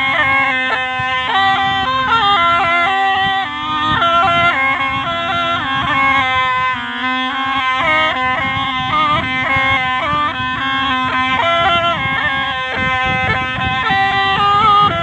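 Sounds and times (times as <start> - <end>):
gourd pipe playing melody: 0.0 - 15.0.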